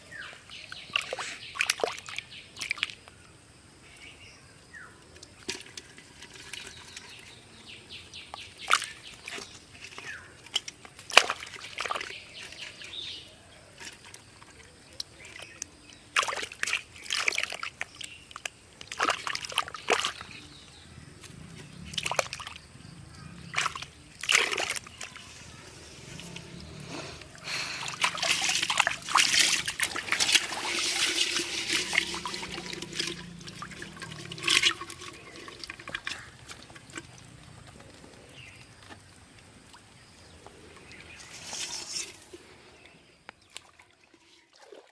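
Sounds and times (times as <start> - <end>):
muddy water splashing: 0.7 - 3.0, 8.4 - 42.7, 43.4 - 44.9.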